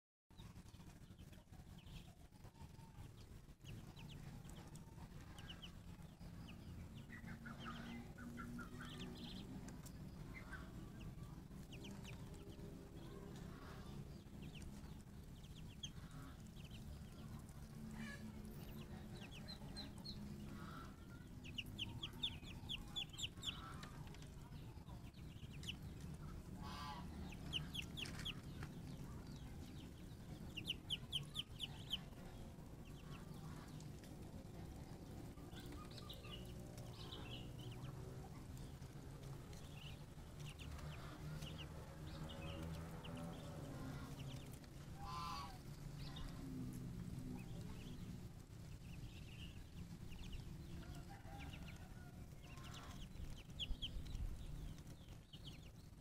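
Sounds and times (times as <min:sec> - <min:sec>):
ducklings peeping: 0:00.4 - 0:56.0
low steady hum: 0:00.4 - 0:56.0.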